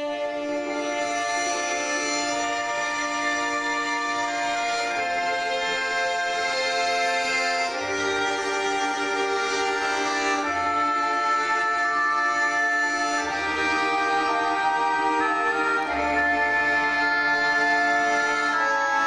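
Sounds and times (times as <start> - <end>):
accordion chords: 0.0 - 19.0
bass notes: 0.2 - 19.0.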